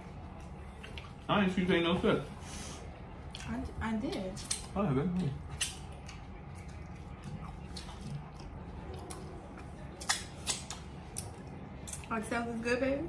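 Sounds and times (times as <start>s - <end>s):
chewing and mouth noises: 0.0s - 1.3s, 3.1s - 12.6s.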